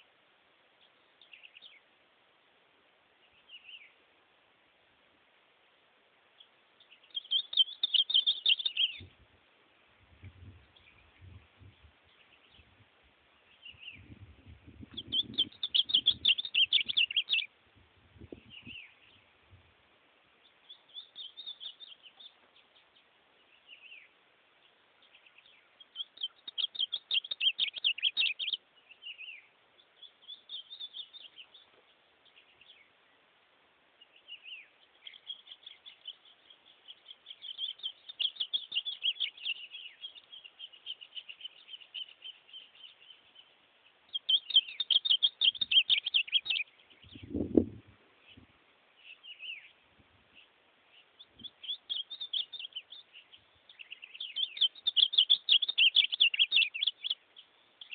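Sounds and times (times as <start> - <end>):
bird singing warbled phrases: 0.8 - 1.9, 3.2 - 4.0, 6.4 - 9.2, 13.4 - 19.4, 20.3 - 33.3, 34.0 - 57.9.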